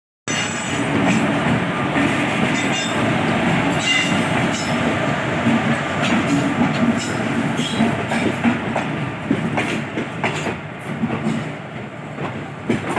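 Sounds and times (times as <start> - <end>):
train wheels rushing on rails: 0.3 - 12.9.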